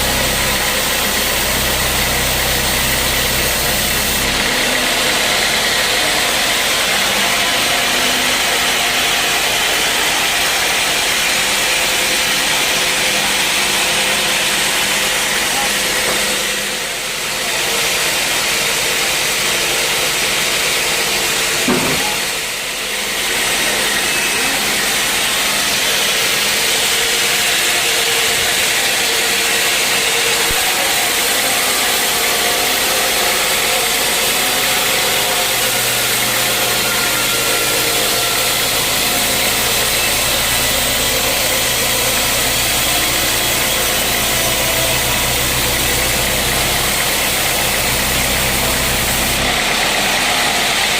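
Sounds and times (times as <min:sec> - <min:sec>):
deep motor hum: 0:00.0 - 0:17.6, 0:21.6 - 0:50.9
sawmill machinery running: 0:00.0 - 0:50.9.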